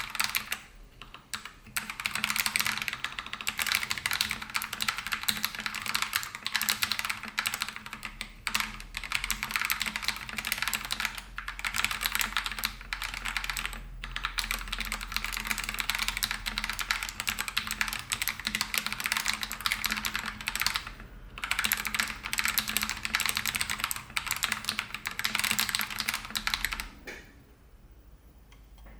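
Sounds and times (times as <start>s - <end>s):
fast typing on mechanical keyboard: 0.0s - 26.9s.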